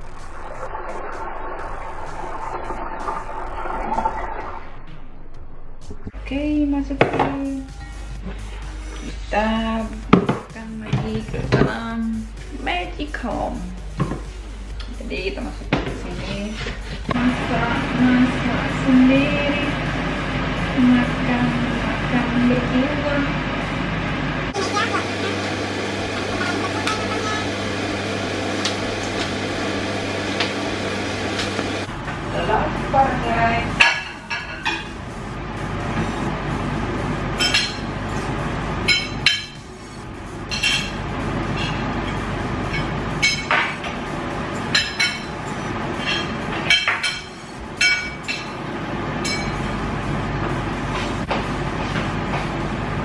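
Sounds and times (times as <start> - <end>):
appliance humming: 0.0 - 53.0.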